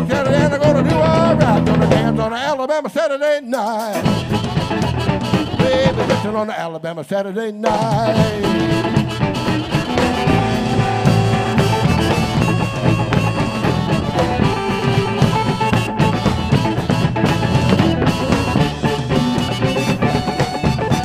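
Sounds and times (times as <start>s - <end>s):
drum kit groove: 0.0s - 2.3s, 3.6s - 6.5s, 7.7s - 21.0s
blues band playing instrumental: 0.0s - 2.5s, 3.6s - 6.5s, 7.6s - 21.0s
electric guitar: 0.0s - 2.5s, 3.6s - 6.5s, 7.6s - 21.0s.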